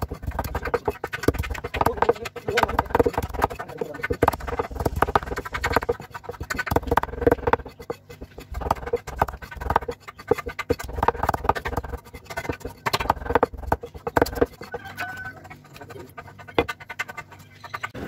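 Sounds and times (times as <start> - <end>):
knife chopping on wooden board: 0.0 - 18.0.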